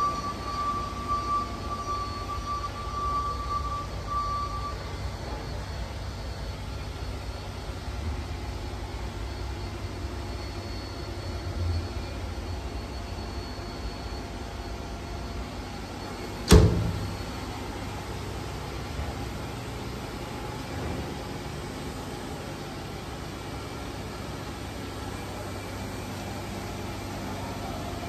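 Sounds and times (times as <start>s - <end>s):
faint high whine: 0.0s - 28.0s
low machinery hum: 0.0s - 28.0s.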